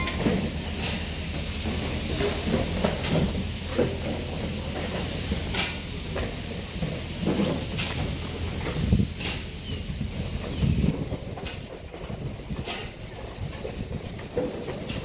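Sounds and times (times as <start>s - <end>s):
train engine rumble and hiss: 0.0s - 15.0s.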